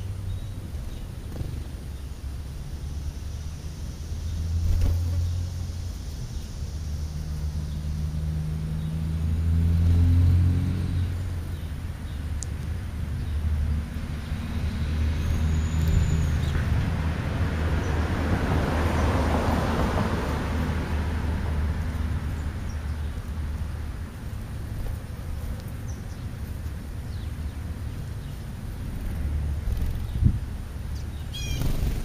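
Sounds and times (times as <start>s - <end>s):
low engine hum of traffic: 0.0s - 32.0s
vehicle passing with tyre noise: 0.0s - 32.0s.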